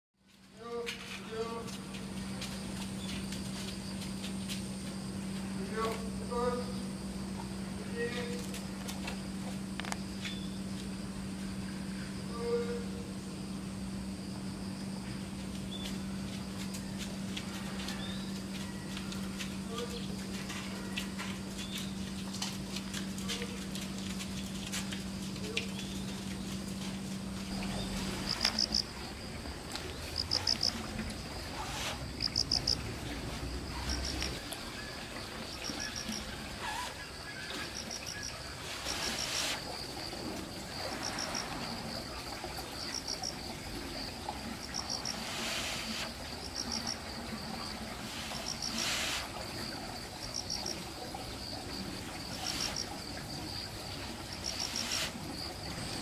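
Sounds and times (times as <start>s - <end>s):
steady high insect trill: 0.3s - 56.0s
insects chirping in rapid pulses: 0.6s - 20.4s, 21.1s - 56.0s.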